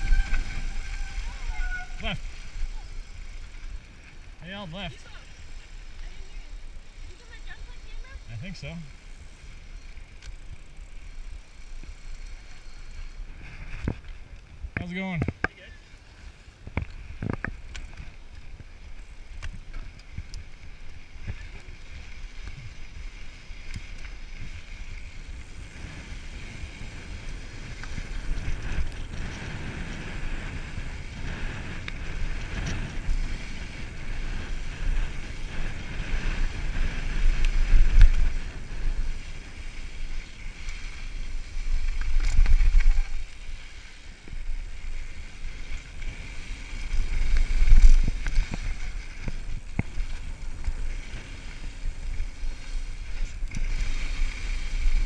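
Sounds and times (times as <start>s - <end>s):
bike rattling over bumps: 0.0s - 55.0s
bike tyres on dirt trail: 0.0s - 55.0s
wind rumbling on microphone: 0.0s - 55.0s.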